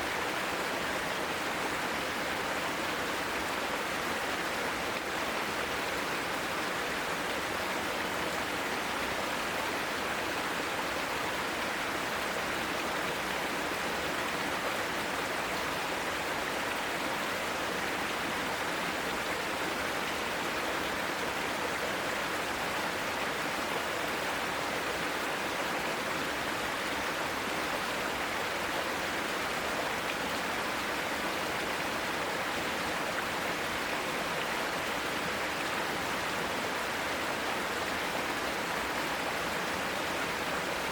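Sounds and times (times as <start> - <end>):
stream rushing water: 0.0 - 40.9.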